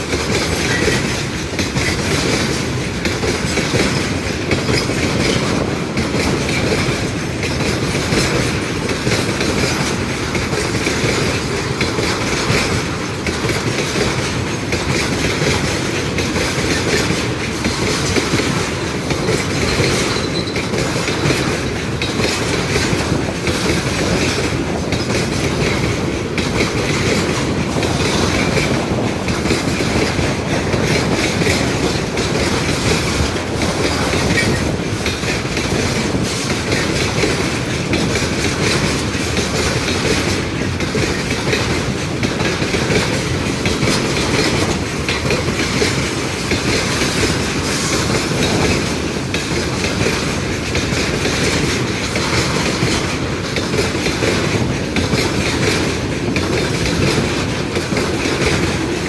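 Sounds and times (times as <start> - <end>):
train rumble: 0.0 - 59.0
train wheels clacking on rails: 0.0 - 59.0.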